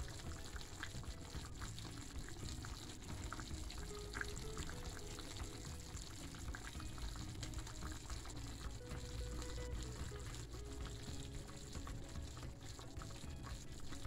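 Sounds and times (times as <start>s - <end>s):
pot simmering bubbling: 0.0s - 14.0s.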